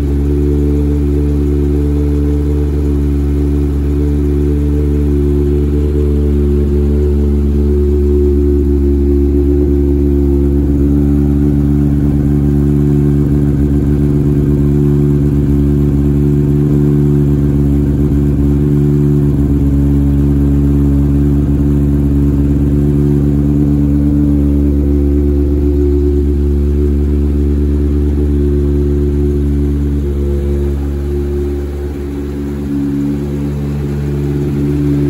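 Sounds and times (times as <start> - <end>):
race engine idling: 0.0 - 35.0.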